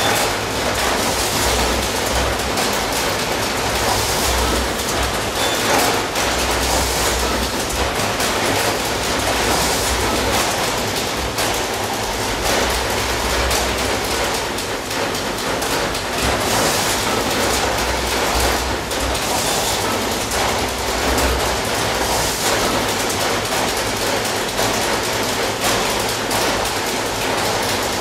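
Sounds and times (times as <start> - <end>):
low machine hum: 0.0 - 23.6
production line clatter: 0.0 - 28.0.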